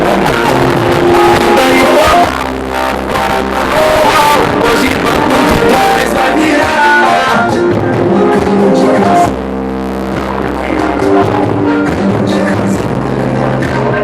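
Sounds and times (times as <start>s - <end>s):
person singing: 0.0s - 9.4s, 10.1s - 14.0s
loud music with guitar: 0.0s - 14.0s.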